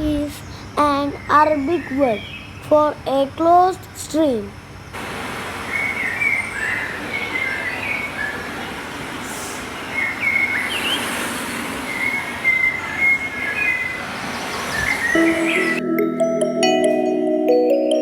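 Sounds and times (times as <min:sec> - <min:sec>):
small birds chirping: 0:00.0 - 0:05.0, 0:05.6 - 0:15.8.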